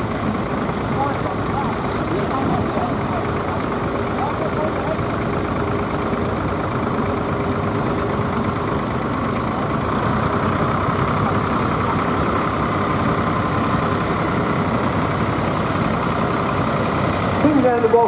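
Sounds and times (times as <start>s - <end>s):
tractor engines rumbling: 0.0s - 18.0s.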